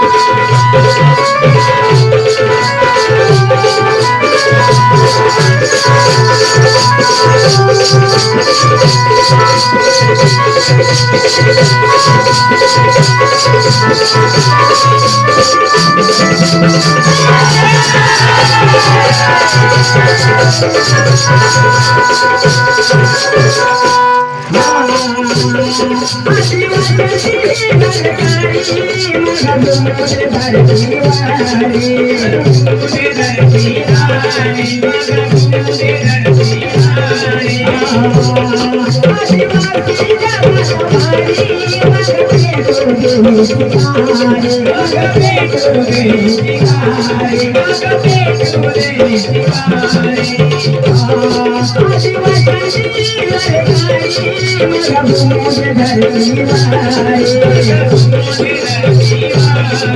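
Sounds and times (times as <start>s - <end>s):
folk dance music: 0.0s - 59.9s
shaker-like percussion: 0.0s - 59.9s.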